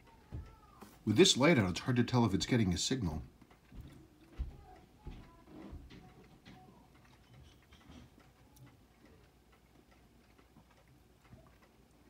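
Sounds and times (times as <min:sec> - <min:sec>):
faint small clicks and ticks: 0:02.1 - 0:12.0.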